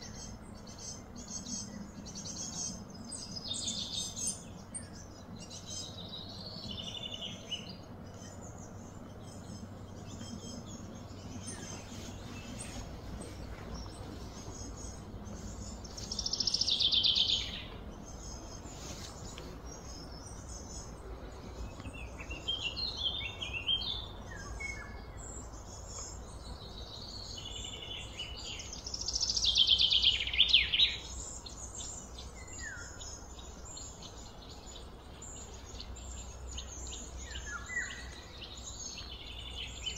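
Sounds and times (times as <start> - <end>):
birds chirping: 0.0 - 39.9
low background hum: 0.0 - 39.9.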